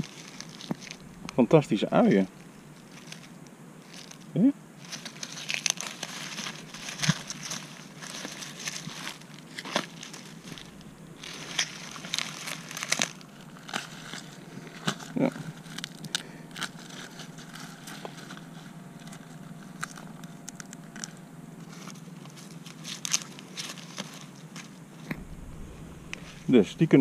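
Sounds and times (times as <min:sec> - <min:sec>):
onion skins rustling and crackling: 0:00.0 - 0:27.0.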